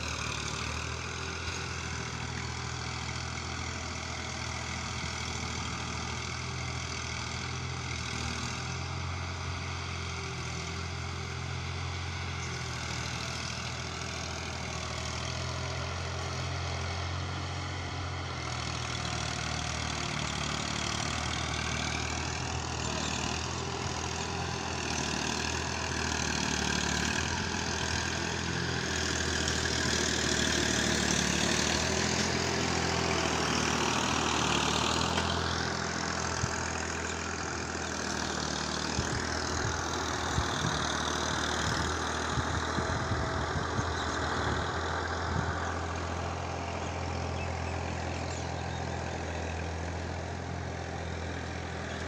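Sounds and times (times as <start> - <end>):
toy tractor engine drone: 7.4 - 52.0.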